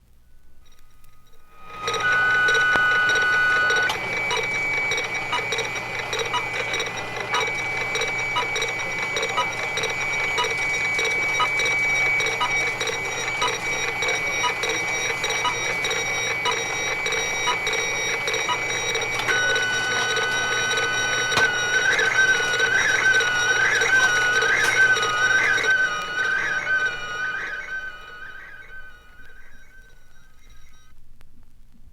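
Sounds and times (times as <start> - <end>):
fax machine electronic tone: 0.4 - 31.0
fax machine ticking: 0.5 - 30.9.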